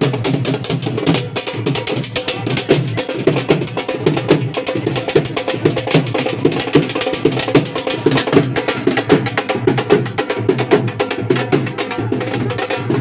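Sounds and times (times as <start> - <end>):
loud music with fast drumming: 0.0 - 13.0.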